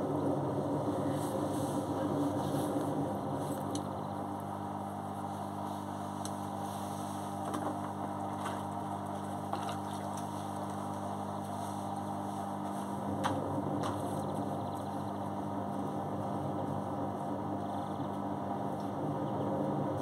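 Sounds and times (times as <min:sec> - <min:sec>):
washing machine drum humming: 0:00.0 - 0:20.0.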